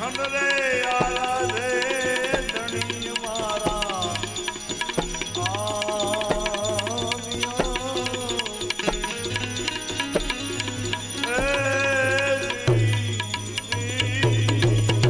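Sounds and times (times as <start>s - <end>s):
tabla strokes: 0.0s - 15.0s.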